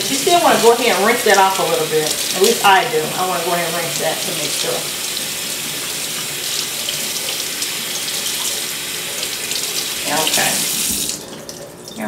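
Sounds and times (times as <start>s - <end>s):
faucet water splashing: 0.0s - 12.0s.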